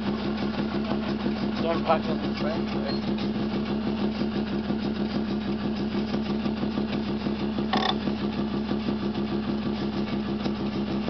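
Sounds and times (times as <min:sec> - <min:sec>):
rotary engine idling: 0:00.0 - 0:11.0.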